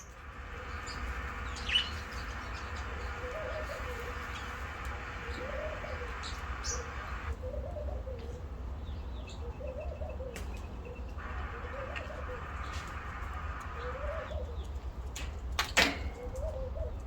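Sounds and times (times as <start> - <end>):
faint higher bird chirps: 0.0 - 14.7
bird low call: 0.0 - 14.9.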